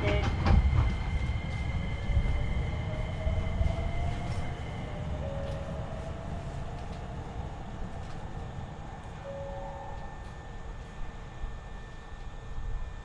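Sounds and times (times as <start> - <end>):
train car low rumble: 0.0 - 13.0.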